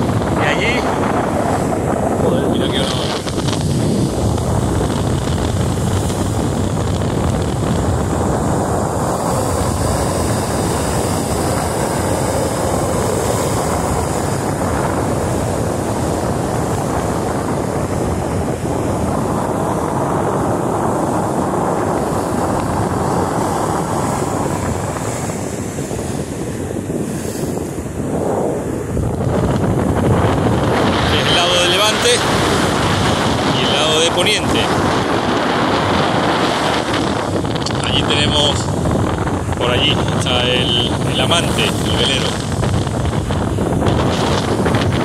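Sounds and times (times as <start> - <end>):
surf breaking on rocky shore: 0.0 - 45.0
wind buffeting microphone: 0.0 - 45.0.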